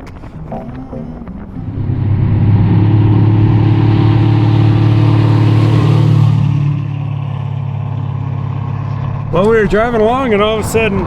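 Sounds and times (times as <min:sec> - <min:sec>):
car engine running under load: 0:00.0 - 0:11.0.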